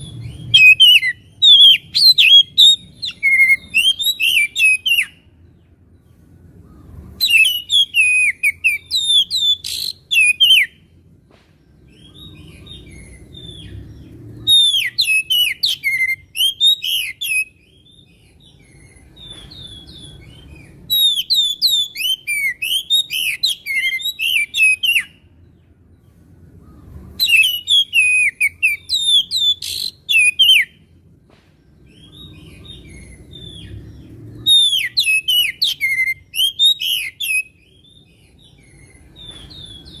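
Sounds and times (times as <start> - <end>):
bird singing whistled chattering notes: 0.0 - 5.3, 7.2 - 10.8, 11.9 - 25.2, 27.2 - 30.9, 31.9 - 40.0.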